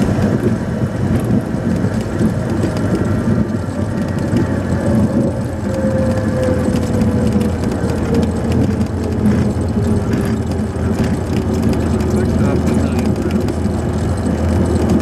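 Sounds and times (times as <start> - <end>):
propeller engine drone: 0.0 - 15.0.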